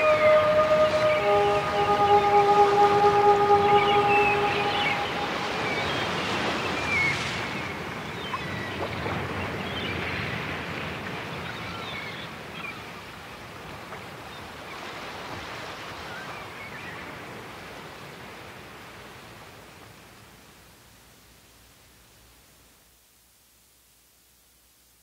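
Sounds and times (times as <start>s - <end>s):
ocean waves washing: 0.0s - 20.5s.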